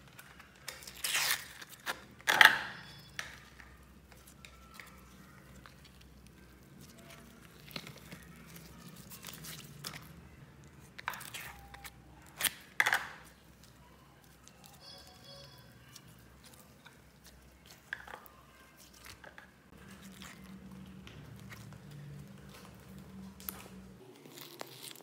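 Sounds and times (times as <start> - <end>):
slime squelching: 2.8 - 25.0.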